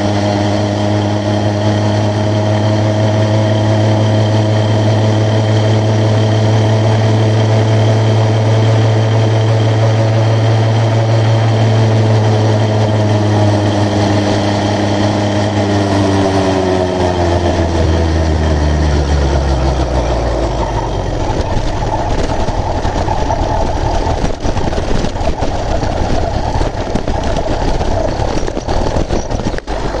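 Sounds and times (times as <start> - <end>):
two-stroke engine running: 0.0 - 30.0
wind and road noise rumble: 0.0 - 30.0.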